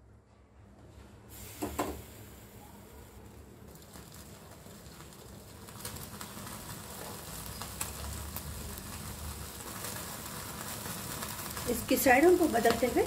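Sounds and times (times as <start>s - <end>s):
chicken sizzling on grill: 1.3s - 13.0s.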